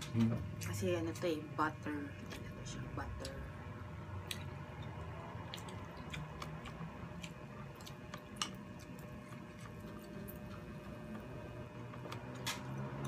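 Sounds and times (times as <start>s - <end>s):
people chewing food: 2.2s - 13.0s.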